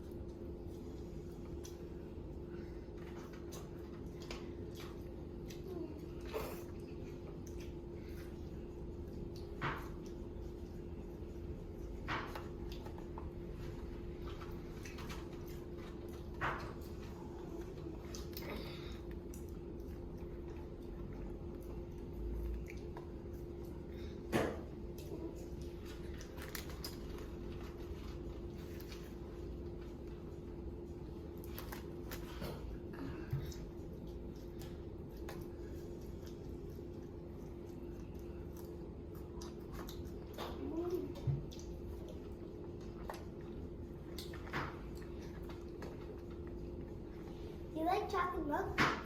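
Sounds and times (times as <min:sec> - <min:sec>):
person chewing: 0:00.0 - 0:24.1, 0:24.7 - 0:47.4
steady low hum: 0:00.0 - 0:49.0.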